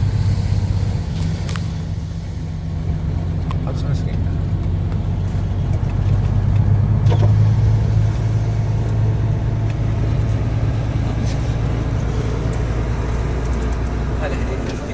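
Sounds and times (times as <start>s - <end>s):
car engine humming: 0.0s - 14.9s
road noise: 0.0s - 14.9s.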